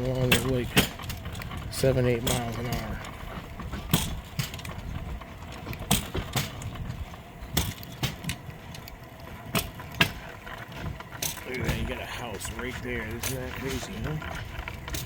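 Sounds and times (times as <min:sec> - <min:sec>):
rail bike rolling on rails: 0:00.0 - 0:15.0.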